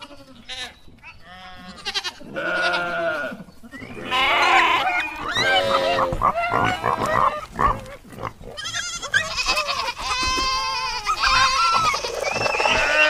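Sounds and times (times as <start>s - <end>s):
sheep bleating: 0.0s - 13.0s.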